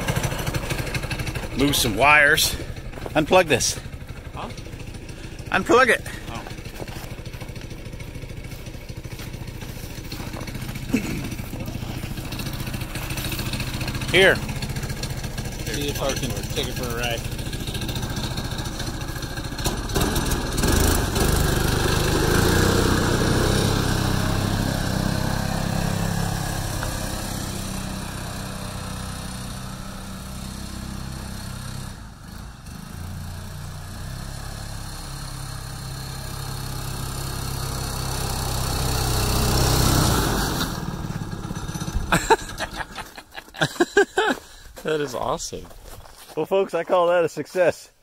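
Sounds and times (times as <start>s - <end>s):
snowmobile engine: 0.0s - 45.6s.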